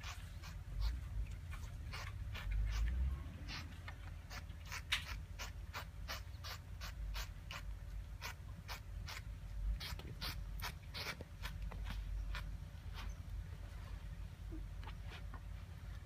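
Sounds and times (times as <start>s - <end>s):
cat making rhythmic rasping sounds: 0.0s - 13.2s.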